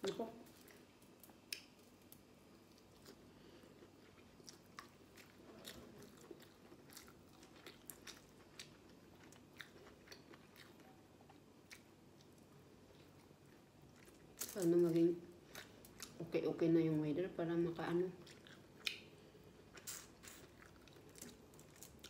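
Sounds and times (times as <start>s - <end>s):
person chewing food: 0.6s - 14.5s, 15.4s - 16.2s, 18.2s - 22.0s.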